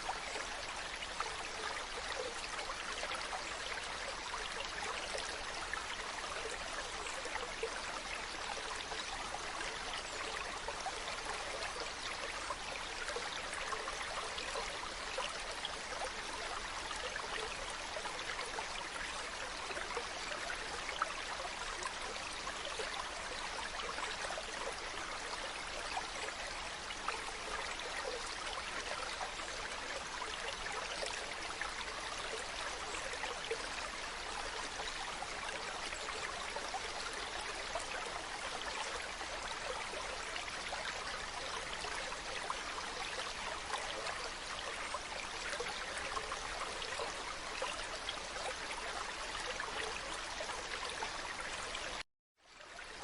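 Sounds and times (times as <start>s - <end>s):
mountain stream flowing: 0.0s - 53.0s.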